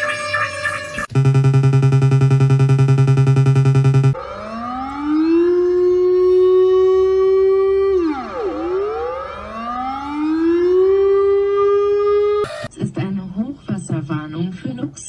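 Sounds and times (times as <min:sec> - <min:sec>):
warning siren wailing: 0:00.0 - 0:12.7.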